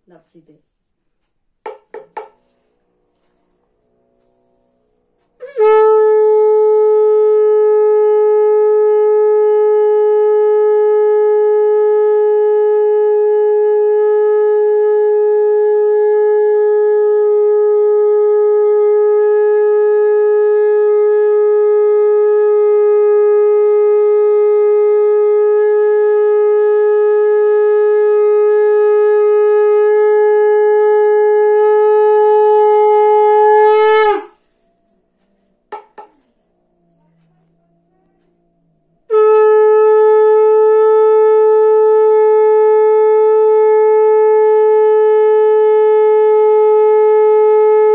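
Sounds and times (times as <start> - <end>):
conch shell blown: 0.6 - 47.9.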